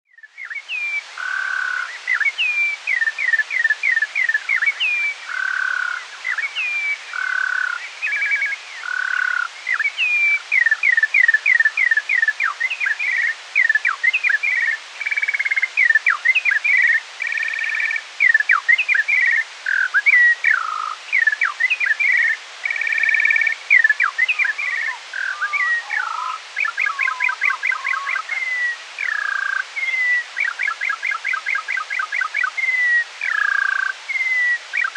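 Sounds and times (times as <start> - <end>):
slowed skylark song: 0.1 - 34.9
steady hiss: 0.1 - 34.9.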